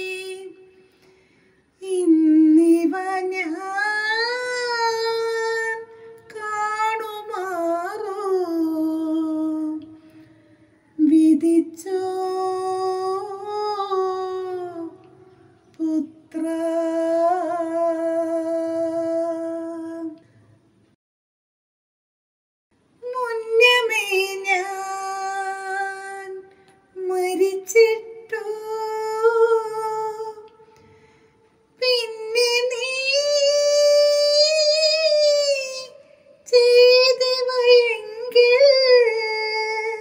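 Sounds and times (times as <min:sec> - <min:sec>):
woman singing unaccompanied: 0:00.0 - 0:00.7, 0:01.8 - 0:10.0, 0:11.0 - 0:15.1, 0:15.7 - 0:20.2, 0:23.0 - 0:30.7, 0:31.8 - 0:40.0.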